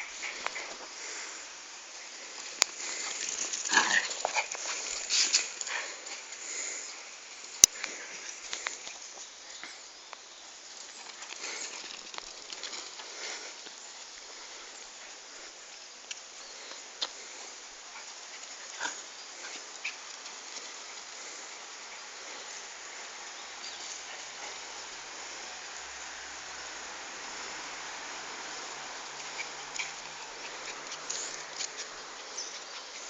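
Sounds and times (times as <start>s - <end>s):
dogs playing: 0.0s - 9.9s, 10.7s - 33.0s
steady hiss: 0.0s - 33.0s.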